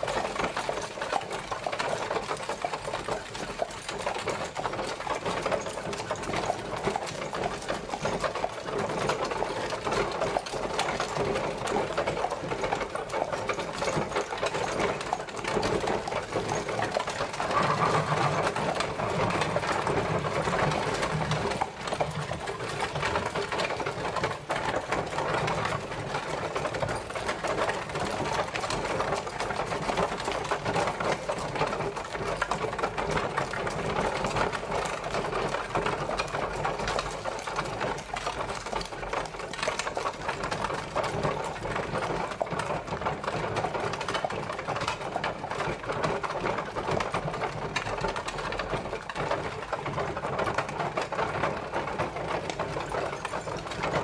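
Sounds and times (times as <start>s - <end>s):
carriage rattling and clattering: 0.0s - 54.0s.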